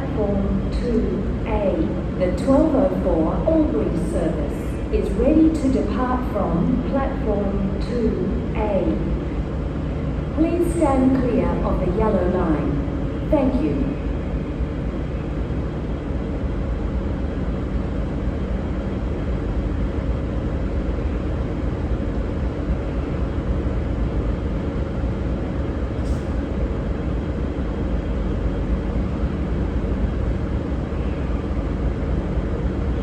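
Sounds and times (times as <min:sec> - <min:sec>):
diesel railcar engines rumbling: 0:00.0 - 0:33.0.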